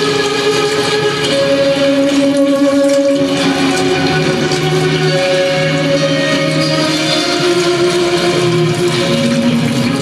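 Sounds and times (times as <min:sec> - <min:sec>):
droning tones: 0:00.0 - 0:10.0
wall of synthesizer noise: 0:00.0 - 0:10.0.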